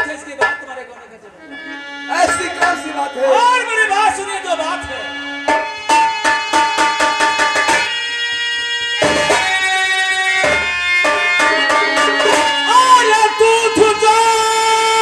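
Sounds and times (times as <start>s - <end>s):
sustained melodic tones: 0.0s - 14.2s.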